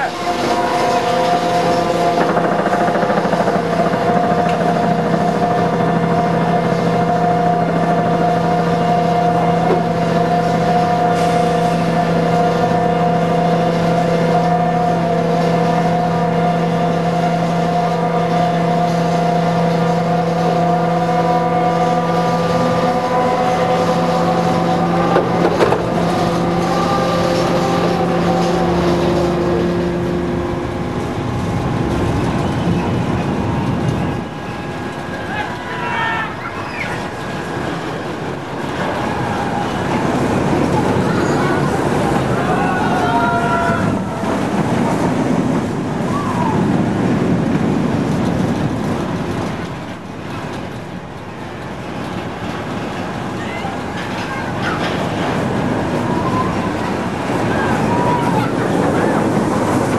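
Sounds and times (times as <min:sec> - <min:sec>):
coaster train rumbling on track: 0:00.0 - 0:59.9
roller coaster chain lift drone: 0:00.0 - 0:59.9.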